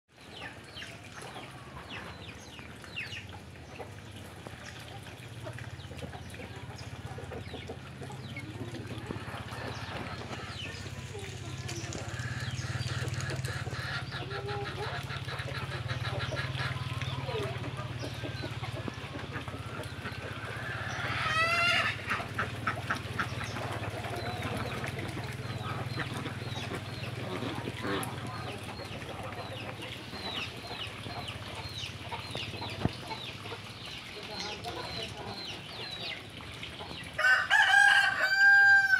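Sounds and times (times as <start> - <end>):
chicks peeping: 0.3 - 38.6
ducks quacking: 5.4 - 38.1.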